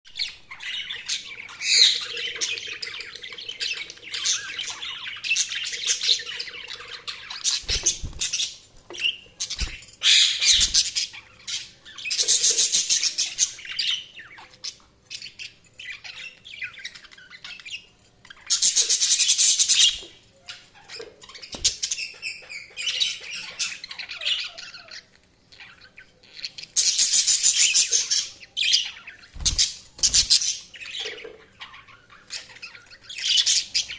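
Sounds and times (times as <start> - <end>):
budgies chirping and warbling: 0.1 - 33.9.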